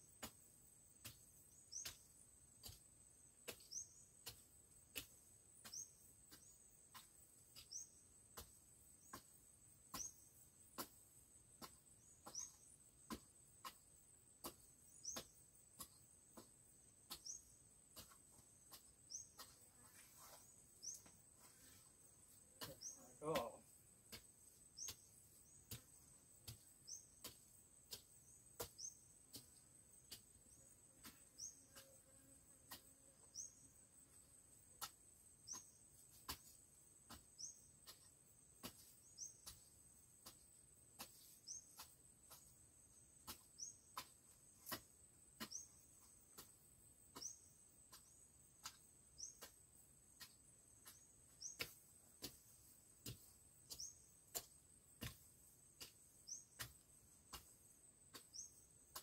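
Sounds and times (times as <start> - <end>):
hoe chopping into soil: 0.1 - 59.0.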